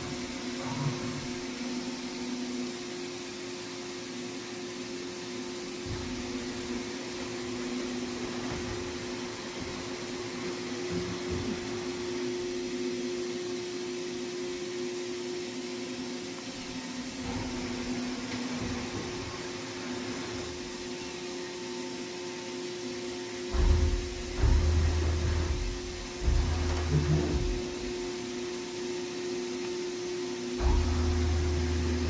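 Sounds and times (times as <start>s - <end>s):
machine hum with whining tones: 0.0s - 32.0s.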